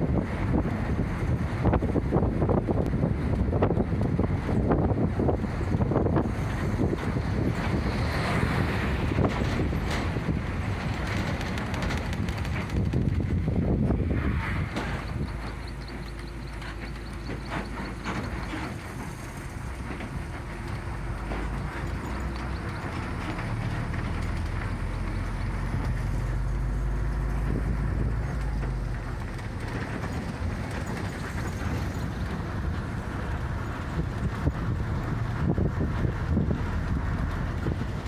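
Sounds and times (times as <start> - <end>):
bus engine drone: 0.0 - 38.0
road rumble: 0.0 - 38.0.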